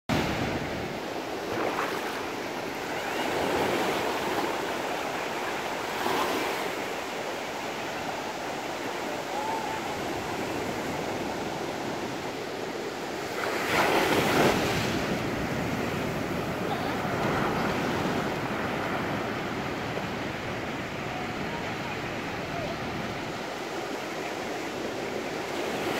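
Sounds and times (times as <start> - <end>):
waves breaking on beach: 0.1 - 25.9.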